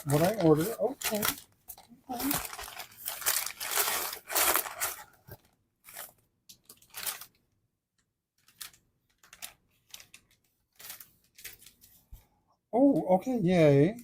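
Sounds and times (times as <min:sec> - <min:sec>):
packaging crinkling and rustling: 0:00.0 - 0:12.1.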